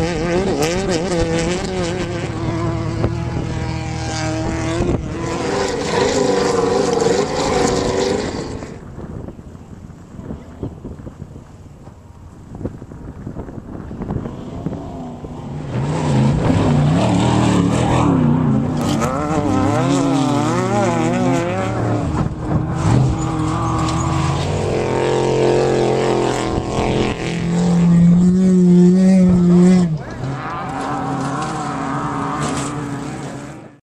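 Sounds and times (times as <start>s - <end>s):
race vehicle engines revving: 0.0s - 33.8s.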